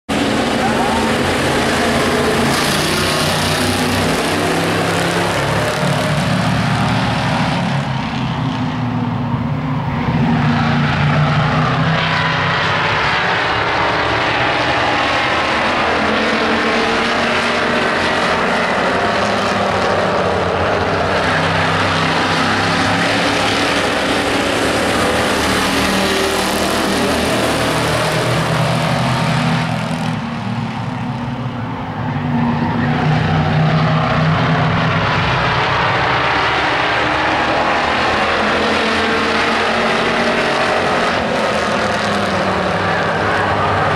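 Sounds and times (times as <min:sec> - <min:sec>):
racing truck engines revving: 0:00.1 - 0:43.9.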